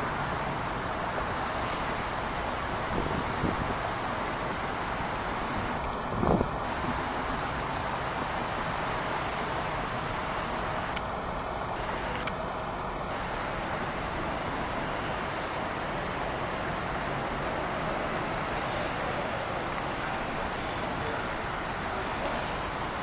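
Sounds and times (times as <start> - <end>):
jet engines of landing airliner: 0.0 - 23.0.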